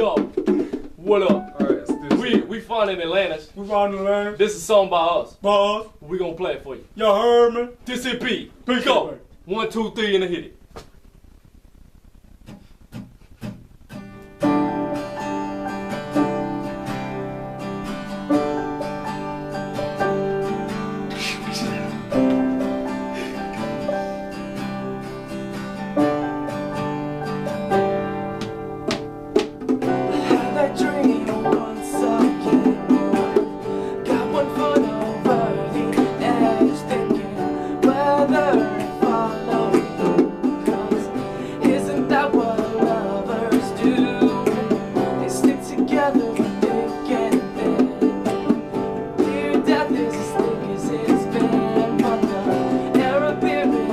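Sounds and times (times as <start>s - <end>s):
acoustic guitar strumming: 0.0s - 3.8s, 12.5s - 53.9s.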